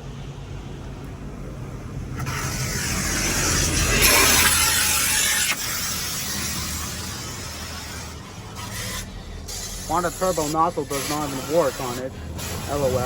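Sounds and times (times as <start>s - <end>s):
steady low hum: 0.0s - 13.0s
water jets spraying a car: 0.6s - 13.0s.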